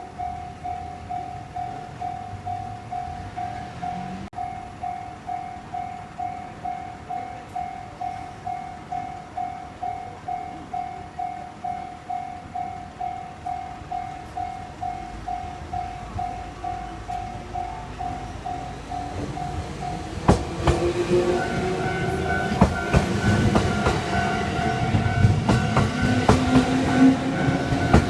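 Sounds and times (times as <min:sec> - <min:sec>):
level crossing warning bell ringing: 0:00.0 - 0:28.0
train rumble: 0:00.0 - 0:28.0.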